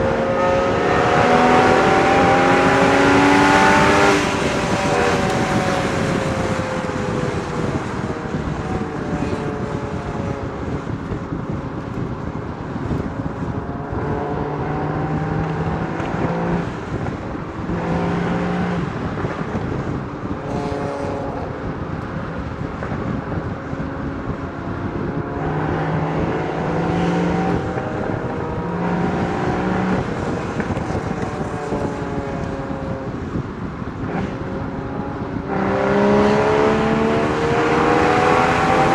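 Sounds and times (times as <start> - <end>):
car exhaust revving: 0.0 - 38.9
wind and road noise: 0.0 - 38.9.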